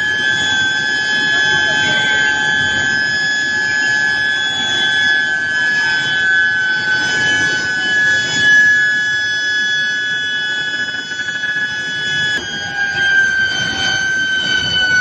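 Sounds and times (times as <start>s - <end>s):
high-pitched induction coil whine: 0.0s - 15.0s.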